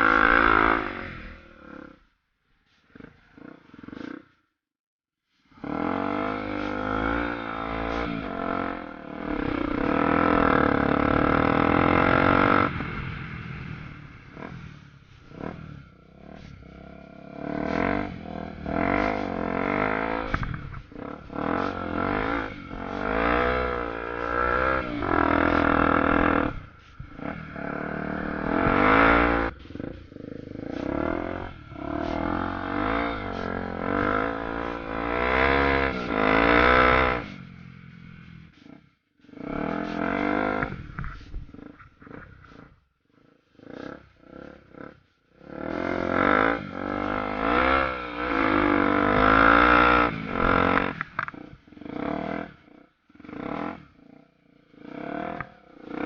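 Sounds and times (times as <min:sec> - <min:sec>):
motorcycle engine revving: 0:00.0 - 0:04.6, 0:05.4 - 0:56.0.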